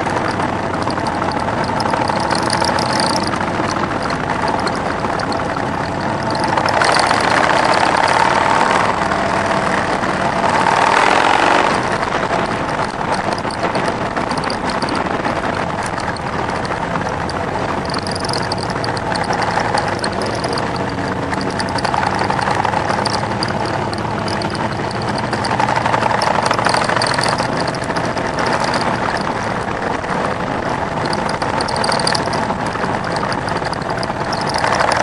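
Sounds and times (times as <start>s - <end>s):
motorcycle engine running: 0.0s - 35.0s
other motorcycles: 0.0s - 35.0s
wind rushing over microphone: 0.0s - 35.0s.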